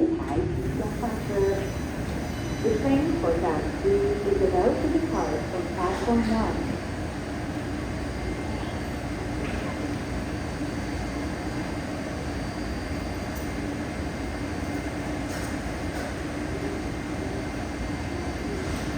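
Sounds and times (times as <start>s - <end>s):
metro train humming and rumbling: 0.0s - 18.9s.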